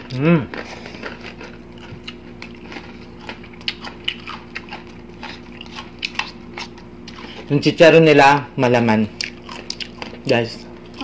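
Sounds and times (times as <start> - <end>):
chewing crispy food: 0.0 - 7.7, 9.1 - 11.0.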